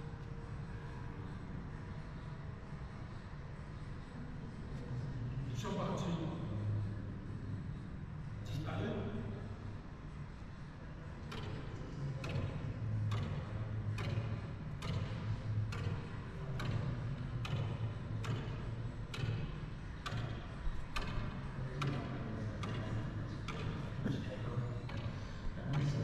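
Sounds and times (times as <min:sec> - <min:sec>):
ventilation hum: 0:00.0 - 0:26.0.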